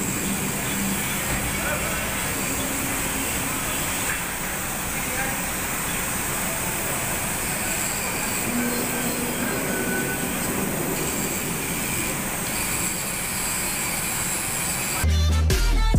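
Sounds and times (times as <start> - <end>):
work machinery noise: 0.0 - 15.0.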